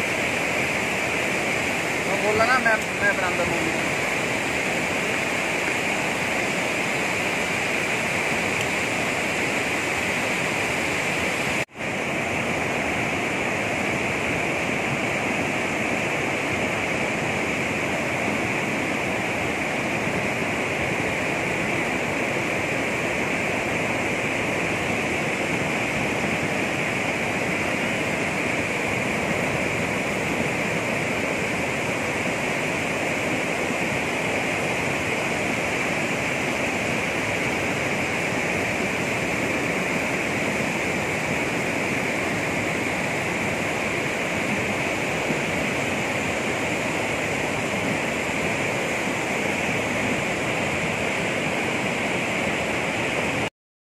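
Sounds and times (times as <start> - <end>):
river rushing over boulders: 0.0 - 53.5.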